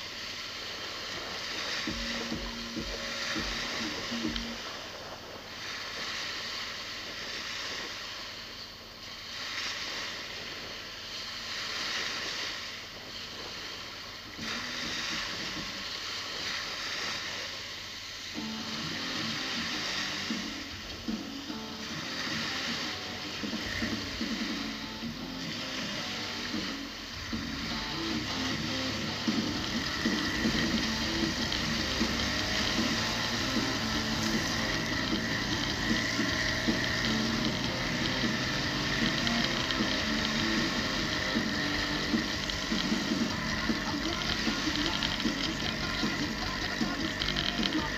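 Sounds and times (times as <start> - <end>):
low wind rumble: 0.0 - 47.9
small waves washing onto beach: 0.0 - 47.9
vehicle driving on wet sand: 0.0 - 47.9.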